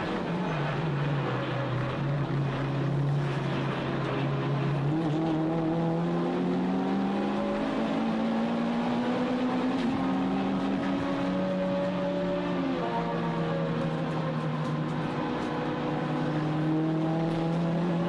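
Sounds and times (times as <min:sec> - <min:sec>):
race car engine revving under load: 0:00.0 - 0:18.0.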